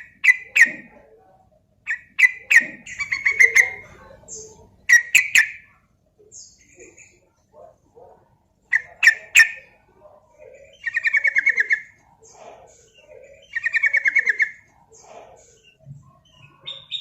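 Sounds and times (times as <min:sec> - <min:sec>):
bulbul singing: 0:00.0 - 0:01.1, 0:01.8 - 0:07.3, 0:08.6 - 0:17.0.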